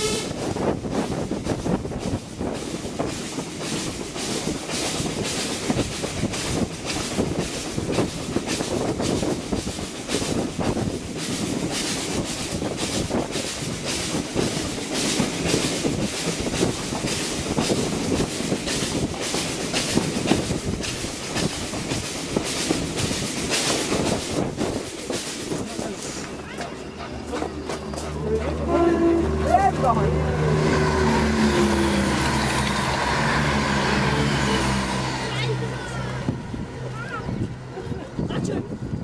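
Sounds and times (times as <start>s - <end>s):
train wheels rumbling on rail: 0.0s - 39.0s
wind: 0.0s - 39.0s.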